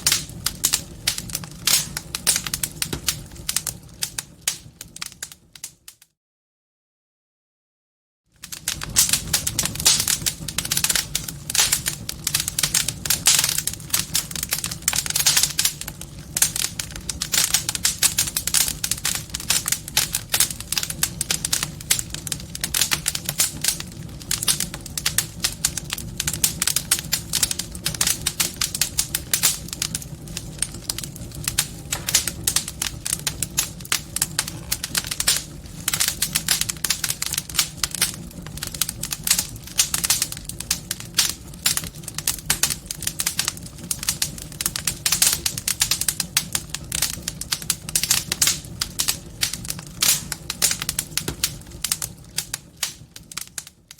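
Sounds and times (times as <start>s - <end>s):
wood fire crackling: 0.0s - 6.0s, 8.3s - 53.9s.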